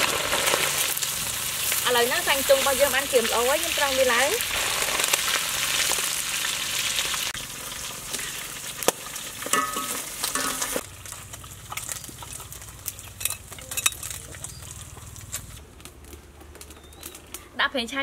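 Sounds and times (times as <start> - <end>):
food sizzling in hot oil: 0.0 - 15.6.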